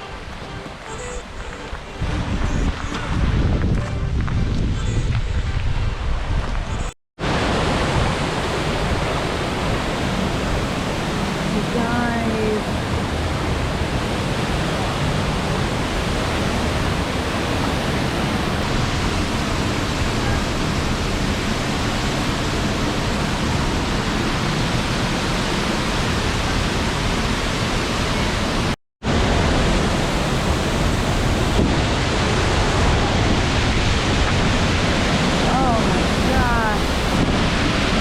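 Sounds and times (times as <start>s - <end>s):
waterfall rushing: 0.0s - 3.4s, 7.2s - 38.0s.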